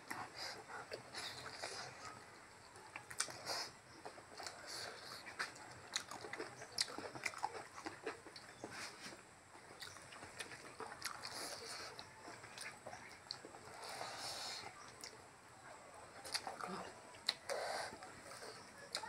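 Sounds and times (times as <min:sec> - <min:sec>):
person chewing food: 0:00.0 - 0:15.2, 0:16.2 - 0:19.0.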